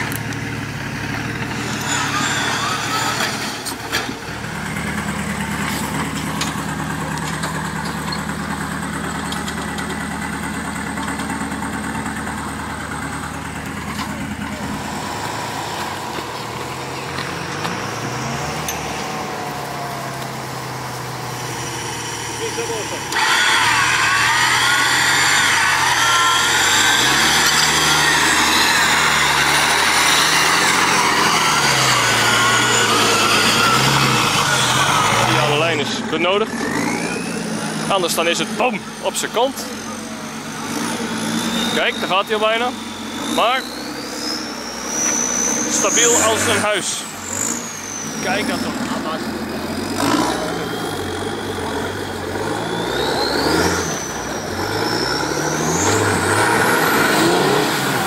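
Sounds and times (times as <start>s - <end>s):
truck engine running at low revs: 0.0s - 58.0s.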